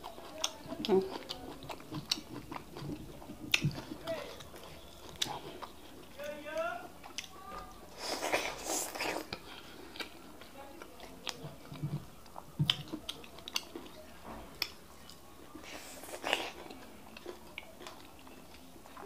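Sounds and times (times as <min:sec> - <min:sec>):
open-mouthed chewing and lip-smacking: 0:00.0 - 0:19.0.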